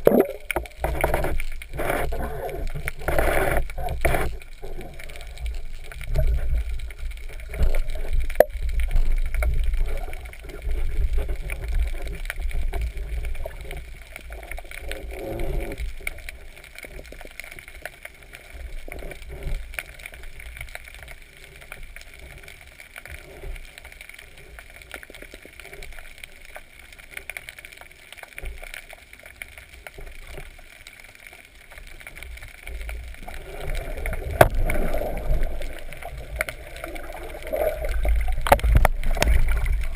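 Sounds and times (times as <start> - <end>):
underwater water rumble: 0.0 - 27.8, 28.4 - 39.9
small clicks: 0.0 - 39.9.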